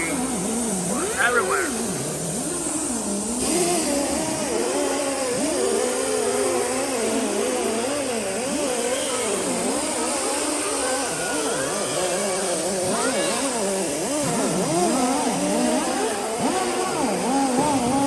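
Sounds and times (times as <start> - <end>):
handheld power tool running: 0.0 - 18.0.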